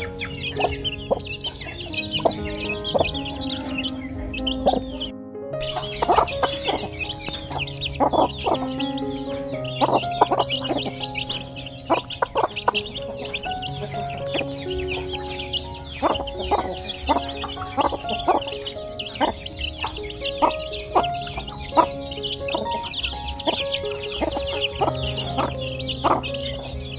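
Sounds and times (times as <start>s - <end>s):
background music: 0.0s - 26.9s
chickens clucking: 0.0s - 26.9s.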